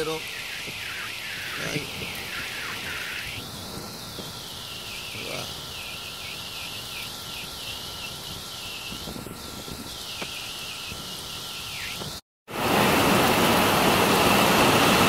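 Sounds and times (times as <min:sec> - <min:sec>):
heavy rain pouring: 0:00.0 - 0:15.0
strong wind: 0:00.0 - 0:15.0.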